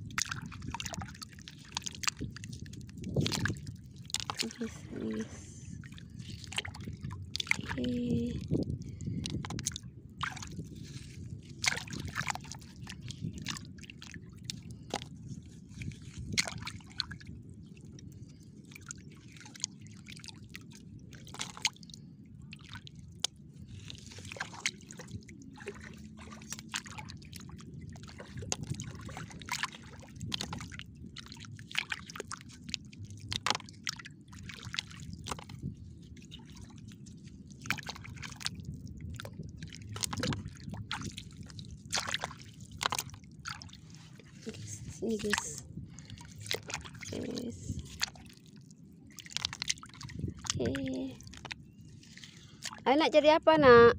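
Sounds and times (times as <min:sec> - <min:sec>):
small sharp splashes and drips: 0:00.0 - 0:52.9
steady low rumble: 0:00.0 - 0:53.9
hand sloshing through water: 0:00.1 - 0:52.9.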